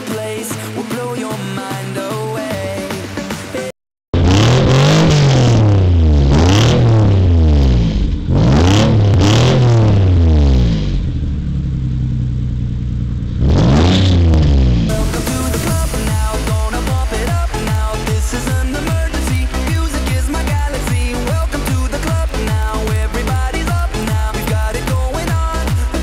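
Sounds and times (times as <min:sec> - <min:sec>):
car engine revving and idling: 0:04.2 - 0:26.0.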